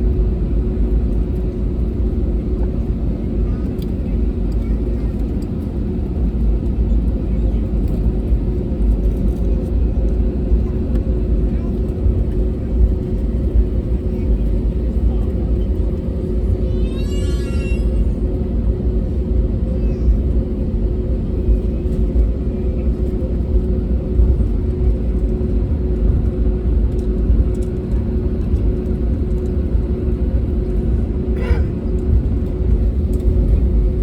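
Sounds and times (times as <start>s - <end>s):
aircraft cabin engine rumble: 0.0s - 34.0s.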